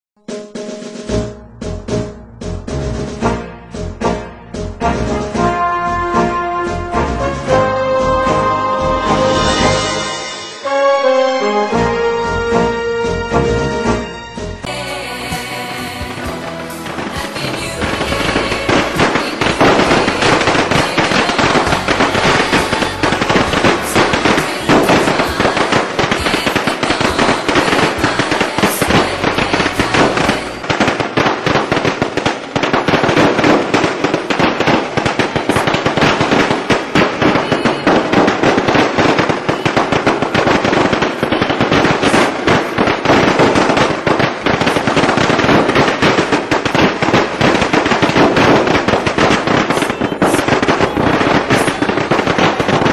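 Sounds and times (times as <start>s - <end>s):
firecrackers crackling: 4.8s - 12.1s, 14.6s - 52.9s.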